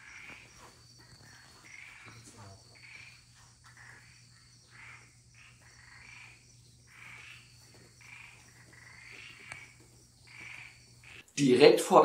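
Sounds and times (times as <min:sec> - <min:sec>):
frog calls: 0:00.0 - 0:11.4
high insect trill: 0:00.0 - 0:12.0.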